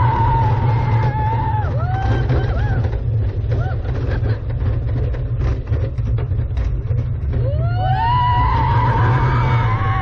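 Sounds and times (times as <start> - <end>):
roller coaster track rumble: 0.0 - 10.0.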